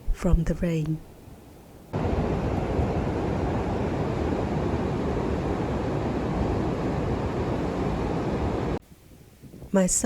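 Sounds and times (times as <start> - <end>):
wind buffeting microphone: 1.9 - 10.0.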